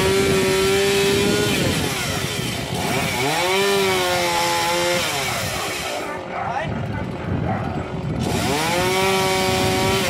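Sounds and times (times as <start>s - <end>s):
chainsaw cutting into tree: 0.0s - 10.0s.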